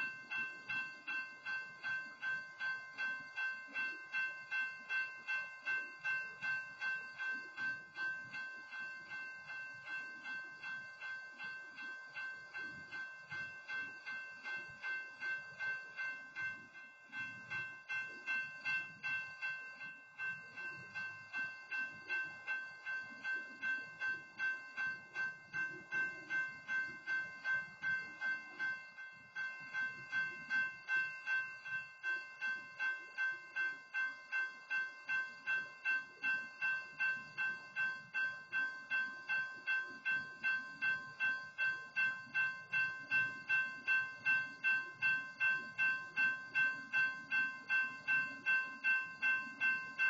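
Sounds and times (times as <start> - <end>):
crossing warning bell ringing: 0.0 - 50.0.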